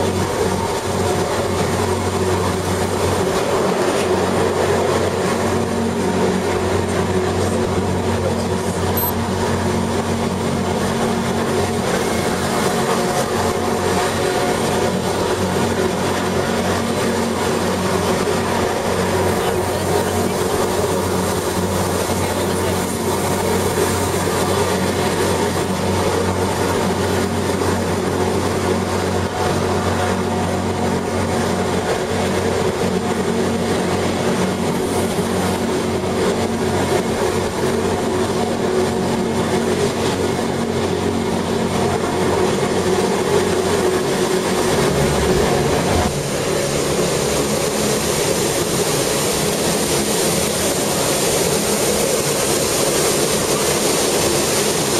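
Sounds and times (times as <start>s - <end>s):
train rumble: 0.0s - 54.9s.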